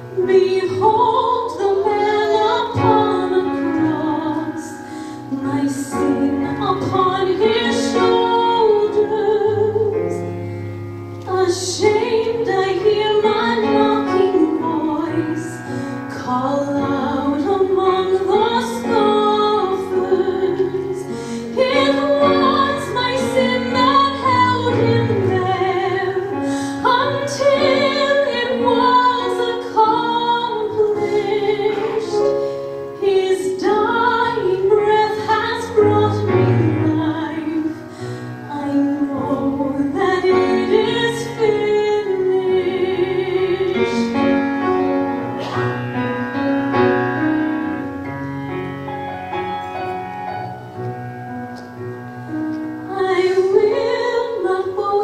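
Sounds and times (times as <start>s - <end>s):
piano accompaniment: 0.0s - 55.0s
woman singing worship song: 0.2s - 10.3s, 11.3s - 44.4s, 52.8s - 55.0s.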